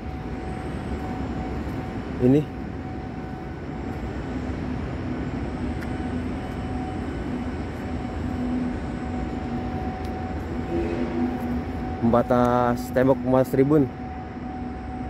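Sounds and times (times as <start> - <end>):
faint machine hum: 0.0 - 15.0.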